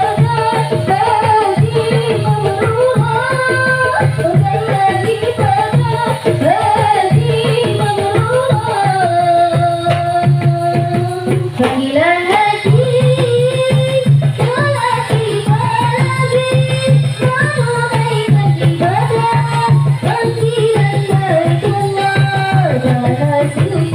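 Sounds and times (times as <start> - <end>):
fast hand drum strokes: 0.0 - 23.9.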